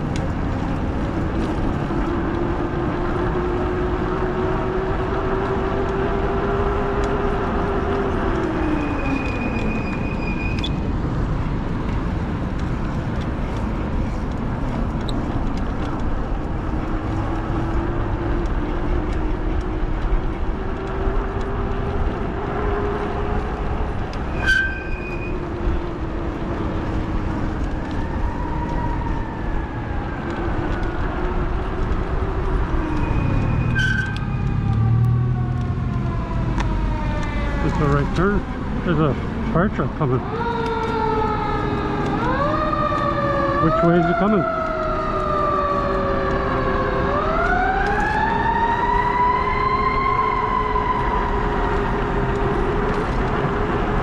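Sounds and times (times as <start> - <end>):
distant fire truck siren: 0.0 - 54.0
wind and road noise: 0.0 - 54.0.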